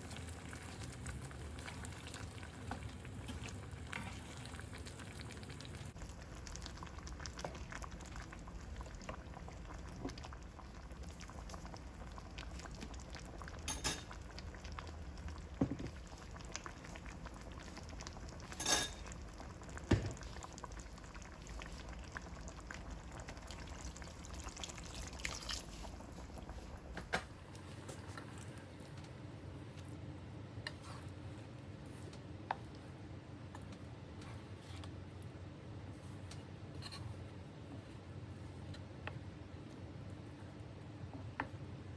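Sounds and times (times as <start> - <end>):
gravy bubbling and sizzling: 0.0 - 34.2.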